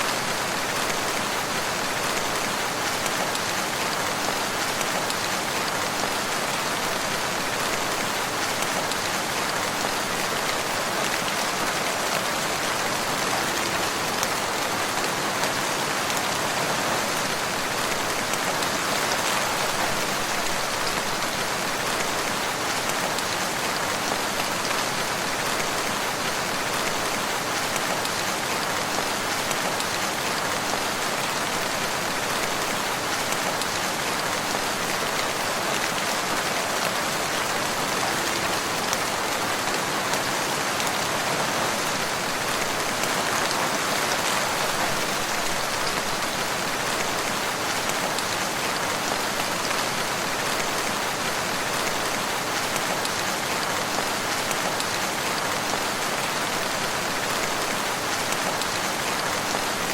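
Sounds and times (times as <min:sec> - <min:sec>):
rain falling on surfaces: 0:00.0 - 0:59.9.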